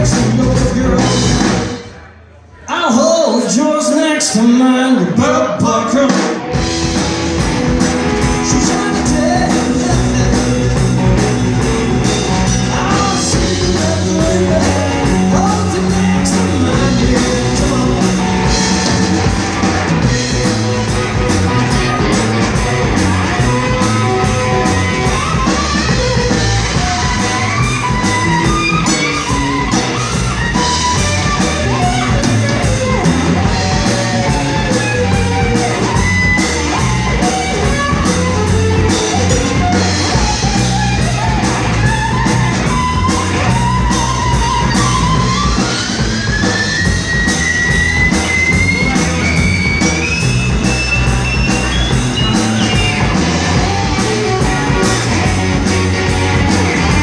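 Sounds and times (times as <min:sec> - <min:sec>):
drum kit beat: 0:00.0 - 0:01.9, 0:05.9 - 0:57.0
electric guitars: 0:00.0 - 0:02.1, 0:04.3 - 0:57.0.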